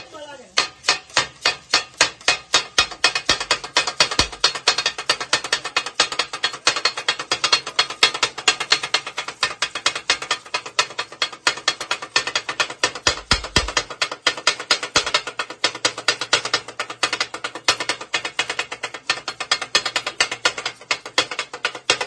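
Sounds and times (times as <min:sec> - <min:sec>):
metal blades striking griddle: 0:00.0 - 0:22.0.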